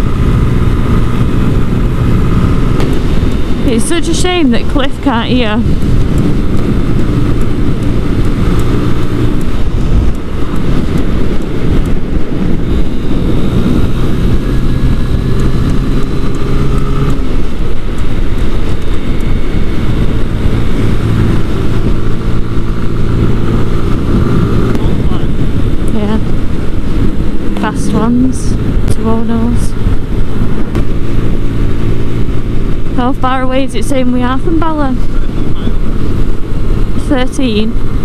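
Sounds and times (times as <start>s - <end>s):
motorcycle engine running: 0.0s - 38.0s
wind noise: 0.0s - 38.0s.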